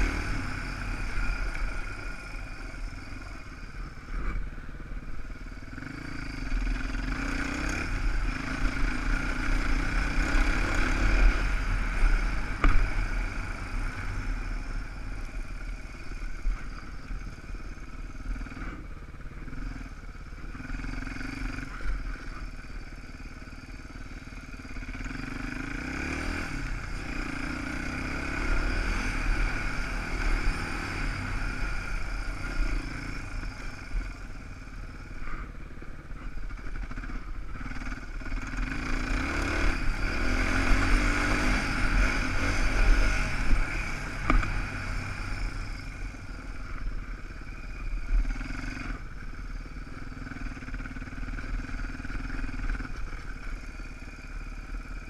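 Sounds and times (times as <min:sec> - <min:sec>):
dirt bike engine revving: 0:00.0 - 0:04.6, 0:05.7 - 0:15.8, 0:24.6 - 0:55.0.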